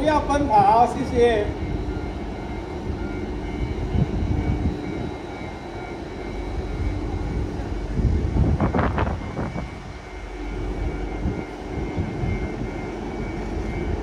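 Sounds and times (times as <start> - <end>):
locomotive engine idling: 0.0 - 14.0.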